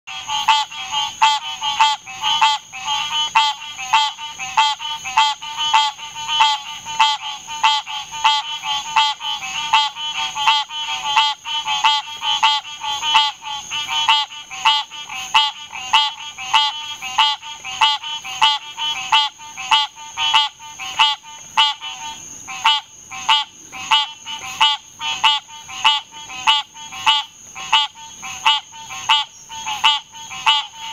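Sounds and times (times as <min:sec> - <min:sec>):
tree frog calling: 0:00.1 - 0:30.9.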